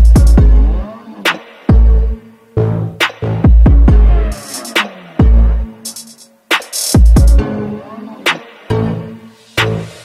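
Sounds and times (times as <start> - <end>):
electronic music with a beat: 0.0 - 10.0.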